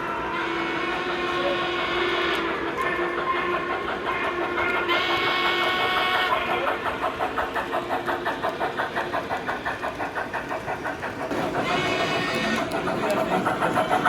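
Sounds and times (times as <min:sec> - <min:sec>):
model locomotive rhythmic chuff: 0:00.0 - 0:14.0.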